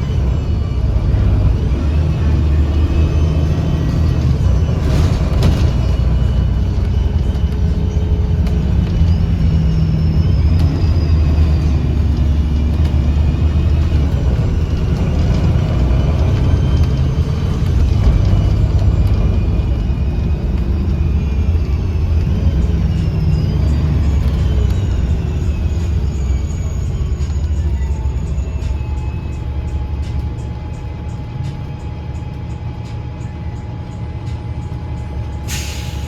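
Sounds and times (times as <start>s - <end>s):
bus engine rumbling: 0.0s - 36.0s
whistling whine: 0.0s - 36.0s.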